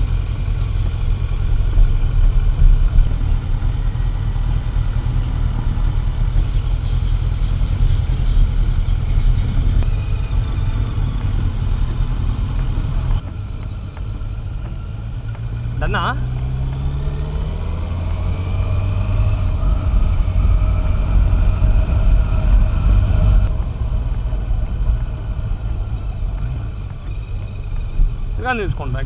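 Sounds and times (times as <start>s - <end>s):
motorcycle engine running: 0.0s - 29.0s
wind rumble on microphone: 0.0s - 29.0s.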